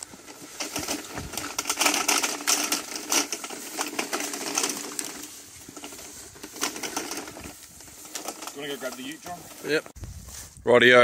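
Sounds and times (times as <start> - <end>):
plastic pipe loops rattling: 0.0 - 9.9.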